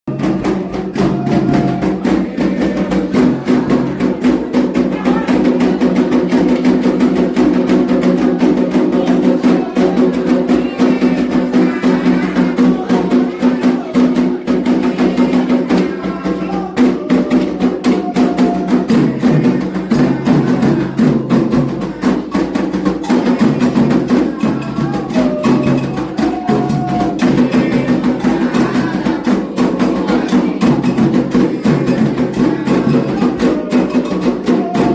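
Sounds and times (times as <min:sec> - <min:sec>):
hand drums beating fast rhythm: 0:00.1 - 0:34.9
voices chanting: 0:00.1 - 0:34.9.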